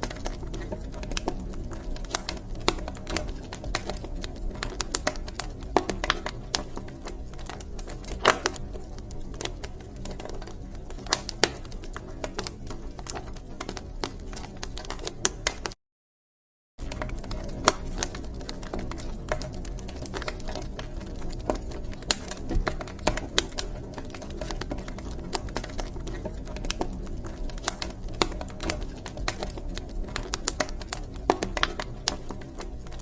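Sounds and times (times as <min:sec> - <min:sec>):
wood fire crackling and popping: 0:00.0 - 0:15.8, 0:16.8 - 0:33.0.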